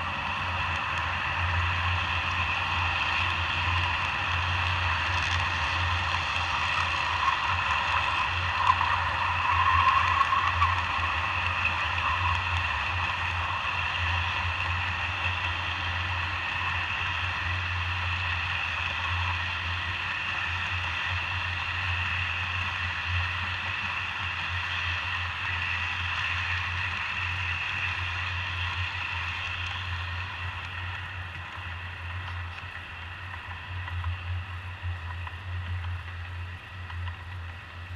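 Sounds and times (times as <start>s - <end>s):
model train wheels rolling on rails: 0.0s - 37.9s.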